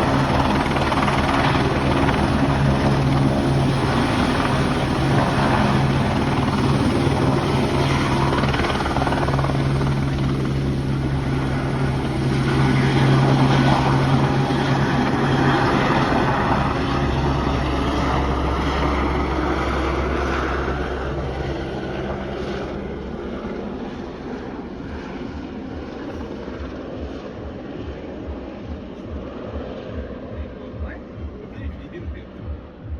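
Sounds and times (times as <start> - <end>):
helicopter rotor and engine drone: 0.0 - 32.9.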